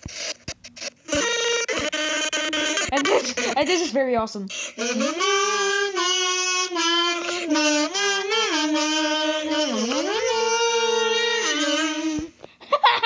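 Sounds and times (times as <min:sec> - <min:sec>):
kazoo melody: 0:00.0 - 0:13.0.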